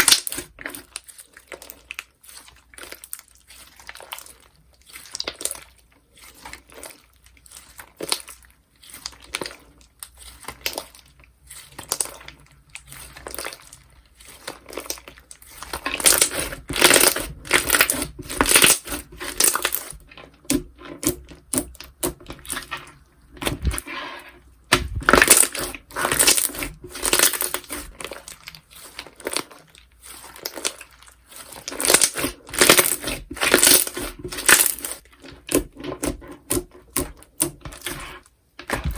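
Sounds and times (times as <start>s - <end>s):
slime squished by hand: 0.0s - 23.8s, 24.7s - 38.9s.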